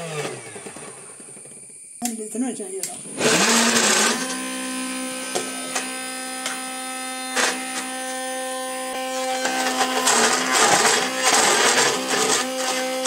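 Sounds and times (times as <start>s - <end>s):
mixer grinder electrical hum: 0.0s - 13.0s.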